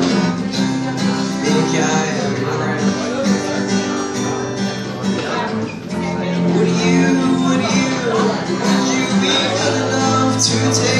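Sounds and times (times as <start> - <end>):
acoustic guitar strumming: 0.0 - 10.9.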